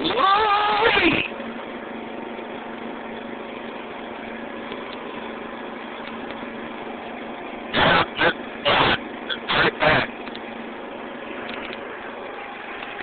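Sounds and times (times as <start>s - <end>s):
riding lawn mower engine: 0.0s - 13.0s.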